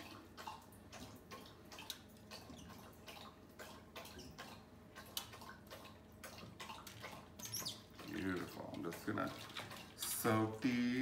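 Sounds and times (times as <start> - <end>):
light watery sounds: 0.0 - 11.0.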